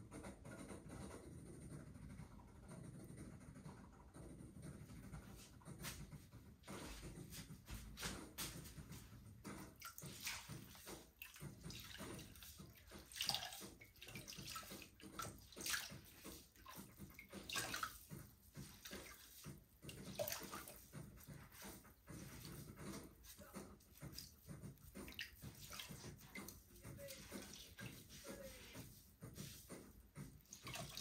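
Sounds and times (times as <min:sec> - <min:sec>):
wet clay swishing on pottery wheel: 0:00.8 - 0:31.0.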